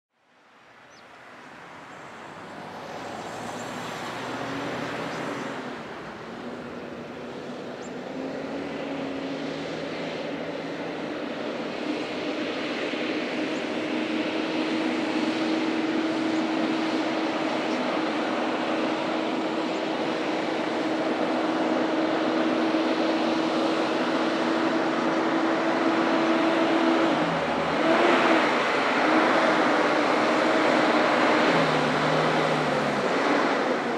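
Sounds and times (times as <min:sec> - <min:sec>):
passing traffic: 0:00.2 - 0:33.9
truck engine drone: 0:01.1 - 0:33.9.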